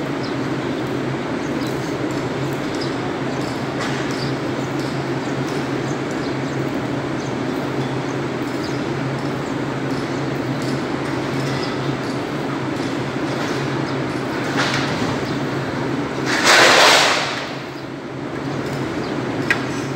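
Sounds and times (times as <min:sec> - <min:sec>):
low mechanical hum: 0:00.0 - 0:19.9.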